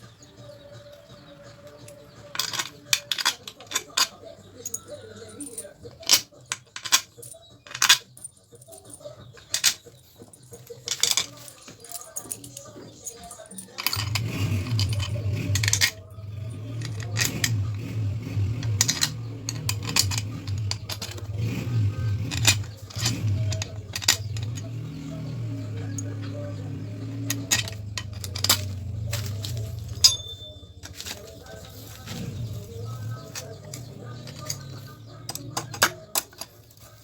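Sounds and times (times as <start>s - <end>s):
metal parts and tools clinking: 0.1s - 37.0s.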